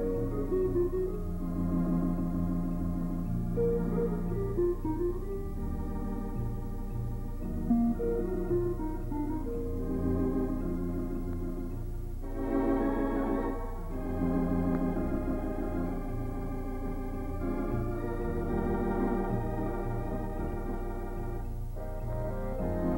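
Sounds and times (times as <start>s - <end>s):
organ playing sustained chords: 0.0s - 22.9s.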